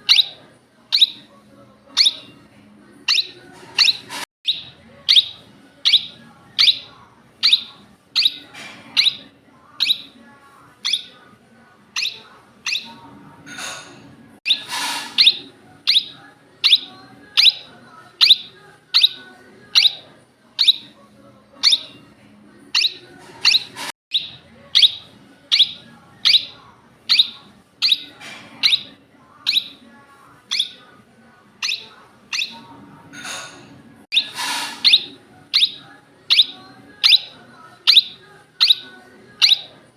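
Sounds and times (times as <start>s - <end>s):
parakeet calling: 0.0s - 1.3s, 2.0s - 2.4s, 3.1s - 10.2s, 10.8s - 11.2s, 11.9s - 21.0s, 21.6s - 22.1s, 22.7s - 29.9s, 30.5s - 30.9s, 31.6s - 39.8s.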